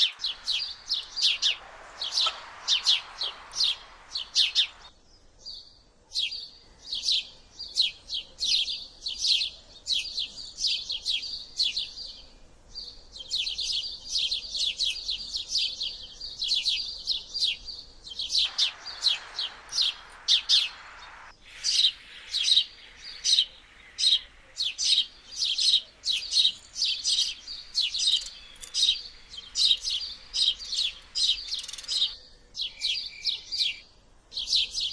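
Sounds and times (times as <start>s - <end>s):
sparrow chirping: 0.0s - 34.9s.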